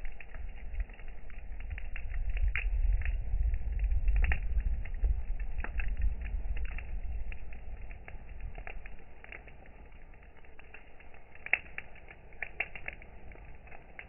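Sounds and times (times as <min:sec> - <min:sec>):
campfire wood crackling: 0:00.0 - 0:14.0
low rumble: 0:00.0 - 0:14.0.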